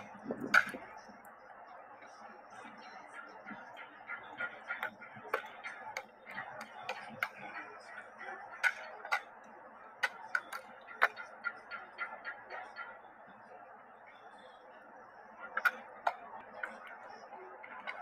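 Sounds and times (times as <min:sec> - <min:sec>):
background murmur: 0:00.0 - 0:18.0.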